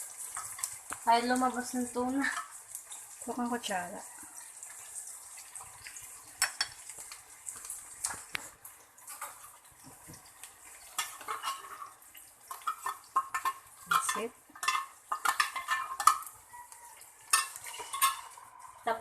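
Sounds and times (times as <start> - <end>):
fish sizzling in a pan: 0.0 - 19.0
utensil scraping frying pan: 0.0 - 19.0.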